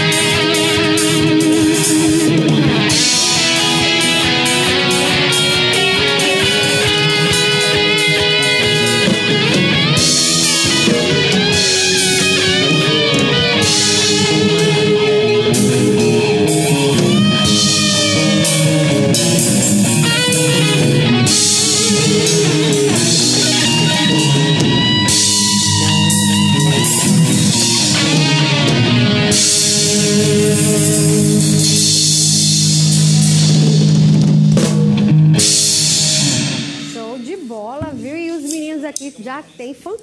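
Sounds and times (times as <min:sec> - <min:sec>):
drum kit with cymbals: 0:00.0 - 0:39.6
electric guitars: 0:00.0 - 0:40.0.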